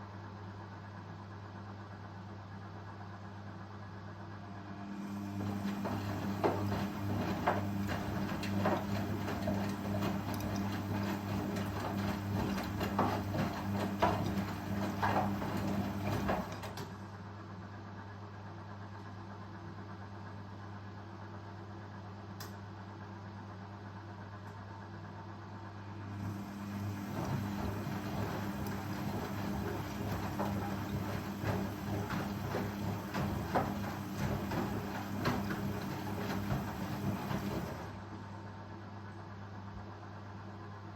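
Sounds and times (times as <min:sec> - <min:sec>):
washing machine spinning hum: 0:00.0 - 0:40.9.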